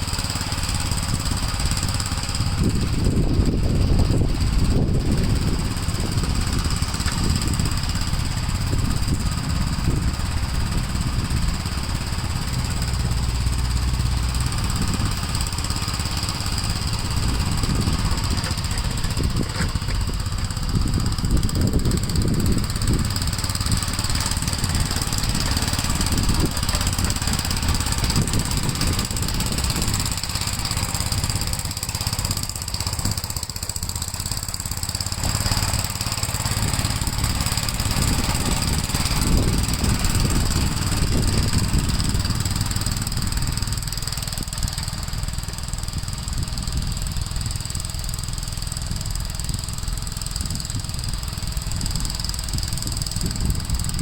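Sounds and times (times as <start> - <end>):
walk-behind tractor engine running: 0.0 - 54.0.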